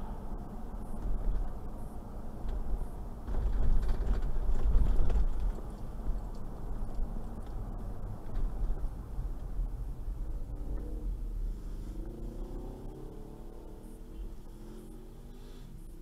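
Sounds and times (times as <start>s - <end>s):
vehicle road rumble: 0.0s - 16.0s.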